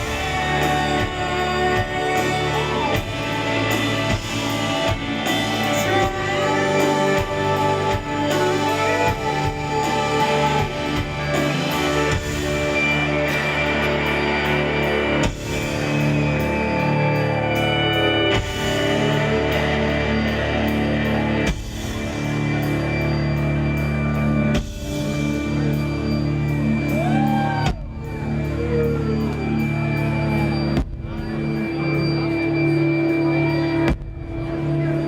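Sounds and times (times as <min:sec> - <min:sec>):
bending lead guitar notes: 0:00.0 - 0:35.0
live rock band playing: 0:00.0 - 0:35.0.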